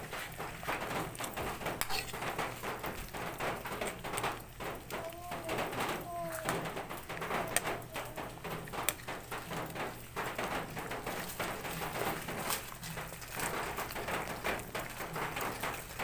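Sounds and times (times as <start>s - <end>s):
liquid bubbling in a pan: 0.0s - 16.0s.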